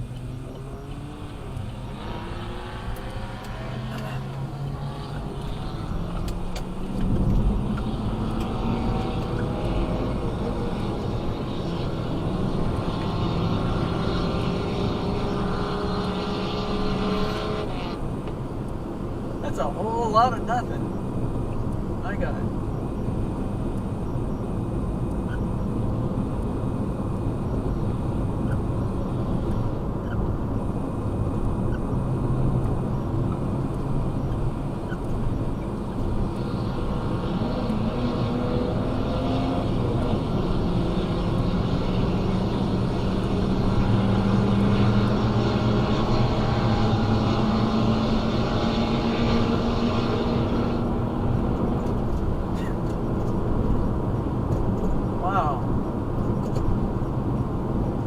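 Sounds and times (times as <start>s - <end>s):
engines accelerating: 0.0s - 58.0s
tyre and road noise: 0.0s - 58.0s.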